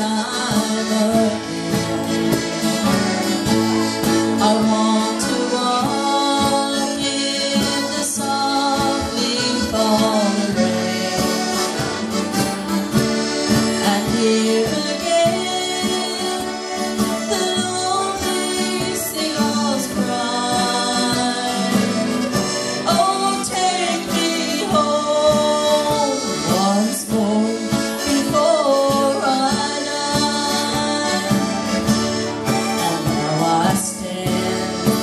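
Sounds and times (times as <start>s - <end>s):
cajon beat: 0.0s - 35.0s
twelve-string acoustic guitar strummed: 0.0s - 35.0s.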